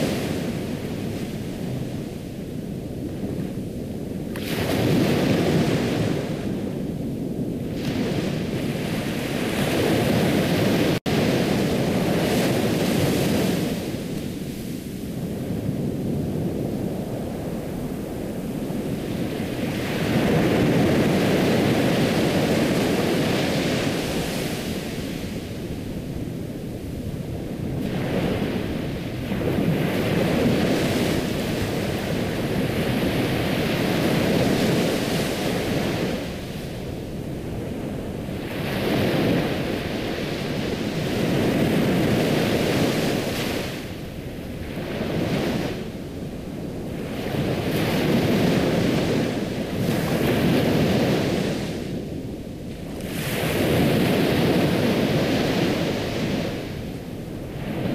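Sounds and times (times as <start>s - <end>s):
ocean waves washing onto shore: 0.0s - 57.9s.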